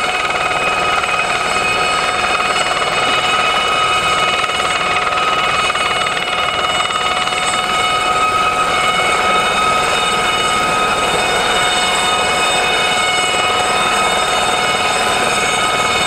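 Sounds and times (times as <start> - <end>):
helicopter rotor chop: 0.0 - 16.0
helicopter turbine whine: 0.0 - 16.0.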